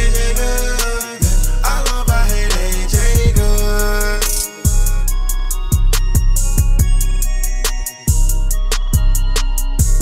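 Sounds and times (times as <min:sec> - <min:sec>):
hip hop beat: 0:00.0 - 0:10.0.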